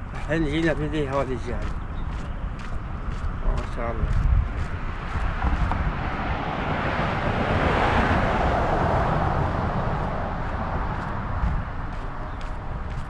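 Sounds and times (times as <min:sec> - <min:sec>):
vehicle passing: 0:00.0 - 0:13.0
wind rumble on microphone: 0:00.0 - 0:13.0.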